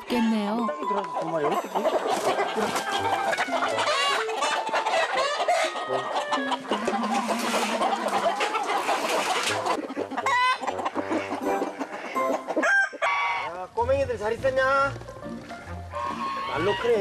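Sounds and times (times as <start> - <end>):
chickens clucking and squawking: 0.0 - 17.0
roosters crowing: 0.1 - 13.7, 15.0 - 17.0.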